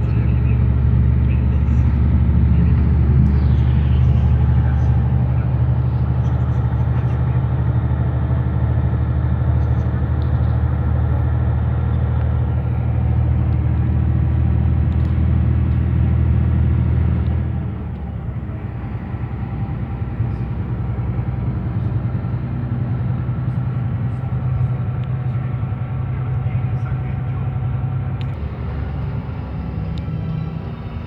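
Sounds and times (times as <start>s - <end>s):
diesel coach engine drone: 0.0s - 31.0s.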